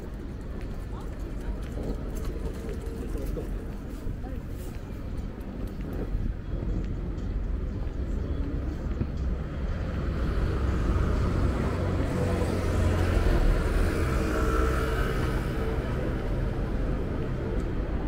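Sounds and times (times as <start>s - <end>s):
rumble of passing vehicles: 0.0s - 18.0s.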